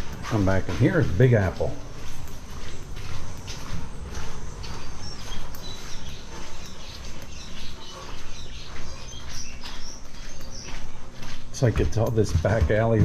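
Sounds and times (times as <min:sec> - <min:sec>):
footsteps on concrete: 0:00.0 - 0:13.0
small birds chirping: 0:00.0 - 0:13.0.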